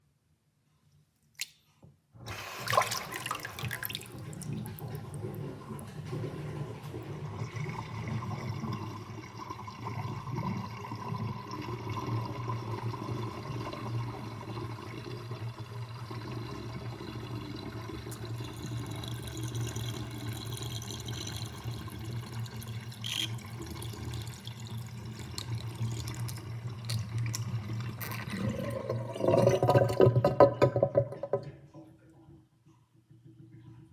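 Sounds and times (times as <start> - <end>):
sink water draining and gurgling: 2.3 - 31.8.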